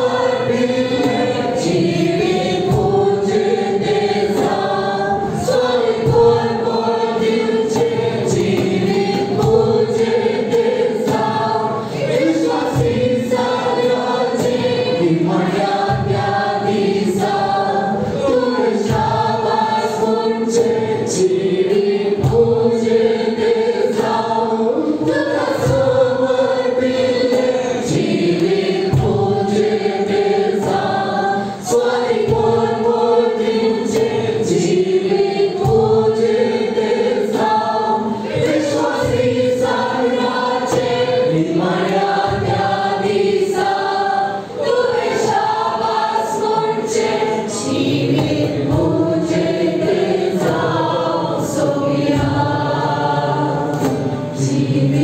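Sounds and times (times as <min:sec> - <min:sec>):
group singing a worship song: 0:00.0 - 0:55.0
instrumental accompaniment with beat: 0:00.0 - 0:55.0.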